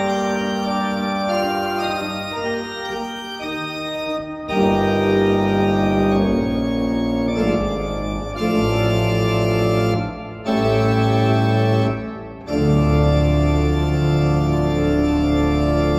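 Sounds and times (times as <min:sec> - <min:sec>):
church pipe organ chords: 0:00.0 - 0:15.9.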